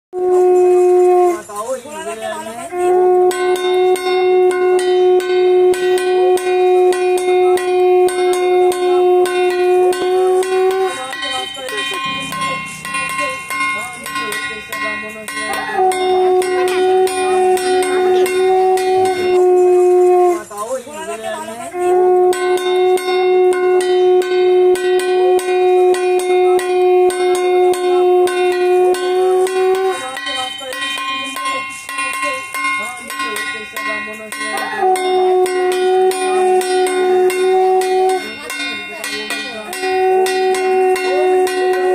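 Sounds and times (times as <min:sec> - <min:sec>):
conch shell blown: 0:00.1 - 0:01.7, 0:02.6 - 0:20.6, 0:21.6 - 0:31.8, 0:34.4 - 0:41.9
metal bell struck: 0:00.2 - 0:41.9.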